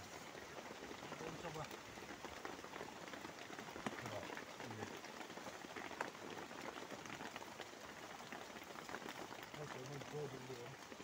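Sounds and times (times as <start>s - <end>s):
rain on a tarpaulin: 0.0s - 11.0s.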